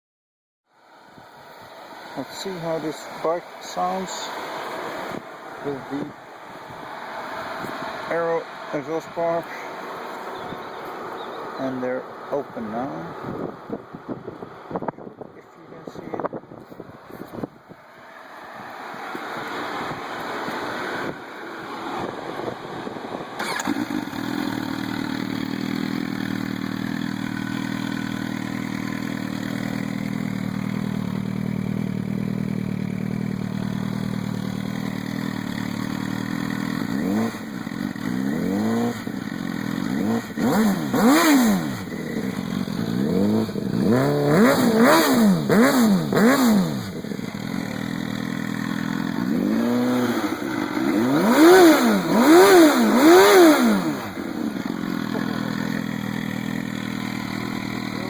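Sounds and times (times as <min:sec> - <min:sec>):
motorcycle engine idling and revving: 0:01.2 - 0:58.0.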